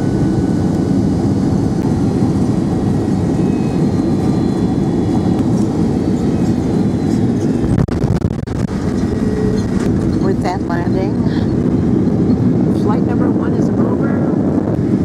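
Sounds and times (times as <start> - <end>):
jet engine and airflow roar: 0.0 - 15.0.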